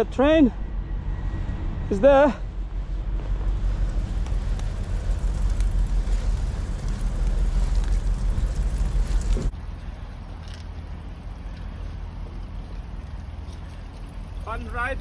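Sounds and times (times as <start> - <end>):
train rumbling: 0.0 - 13.4.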